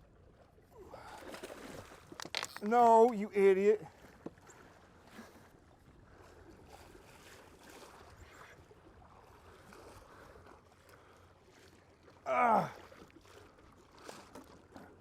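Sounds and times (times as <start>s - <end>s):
faint water: 0.0s - 15.0s.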